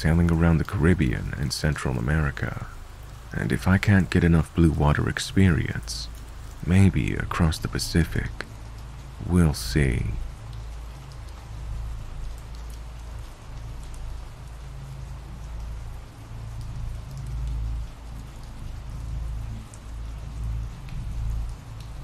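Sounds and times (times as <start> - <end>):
rain drop ticks: 0.0 - 22.0
steady rainfall: 0.0 - 22.0.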